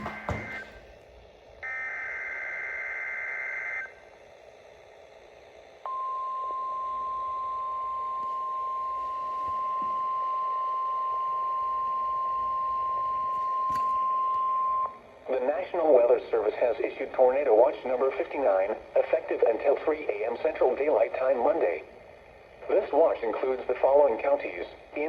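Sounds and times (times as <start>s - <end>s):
steady warning alarm tone: 0.0s - 25.0s.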